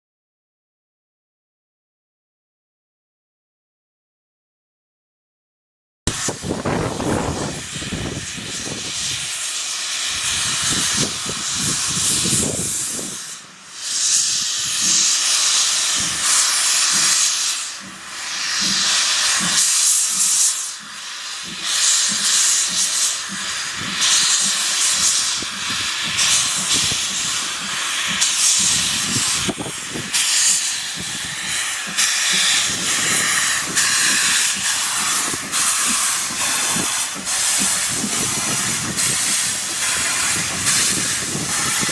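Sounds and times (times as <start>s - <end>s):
locomotive steam hissing: 6.1s - 41.9s.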